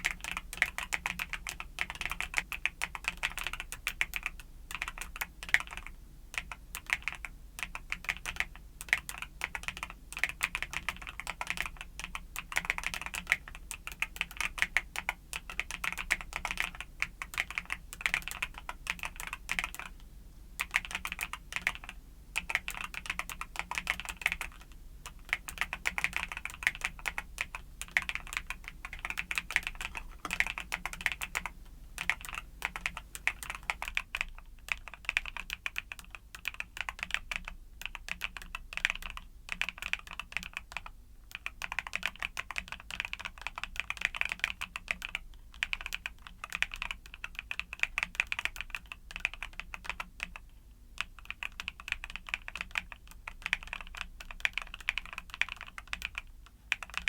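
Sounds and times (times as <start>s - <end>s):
mechanical keyboard typing: 0.0s - 20.0s, 20.6s - 57.0s.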